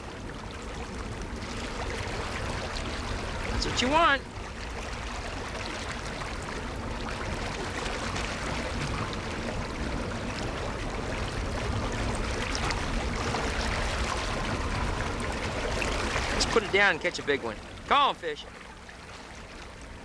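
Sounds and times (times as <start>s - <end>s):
water rushing along boat hull: 0.0s - 20.0s.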